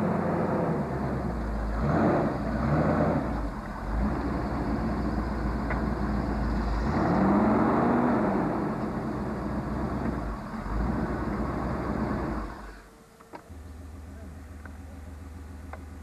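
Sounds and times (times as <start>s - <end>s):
engine revving under load: 0.0s - 12.9s.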